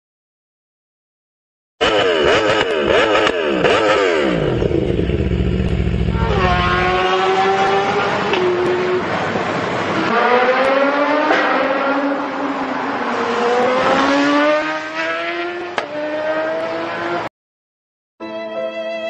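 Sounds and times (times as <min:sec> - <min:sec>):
motorcycle engine revving and accelerating: 0:01.8 - 0:17.3.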